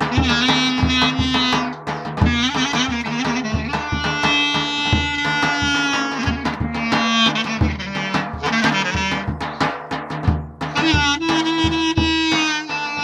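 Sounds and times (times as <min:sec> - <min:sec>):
clarinet melody: 0:00.0 - 0:09.6, 0:10.7 - 0:13.0
davul drum beating: 0:00.0 - 0:13.0.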